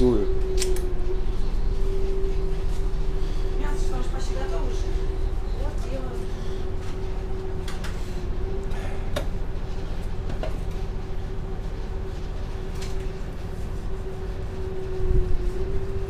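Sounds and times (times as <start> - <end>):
ship engine droning: 0.0 - 16.0.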